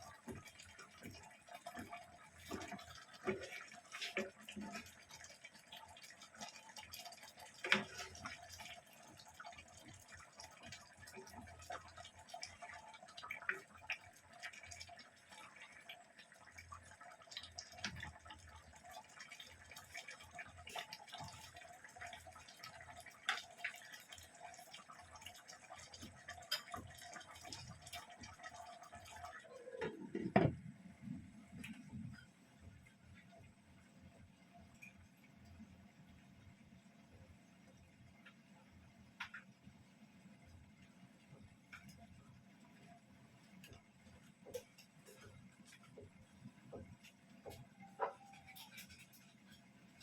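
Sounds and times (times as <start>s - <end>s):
pot simmering with bubbling: 0.0s - 50.0s.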